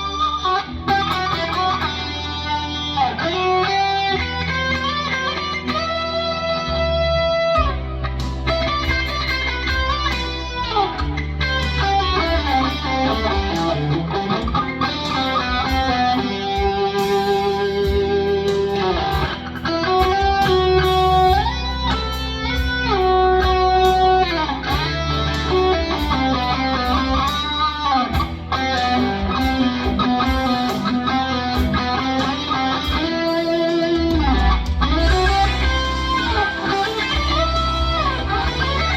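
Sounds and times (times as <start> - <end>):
electric rock guitar lead: 0.0 - 38.9
low bass backing: 0.0 - 38.9.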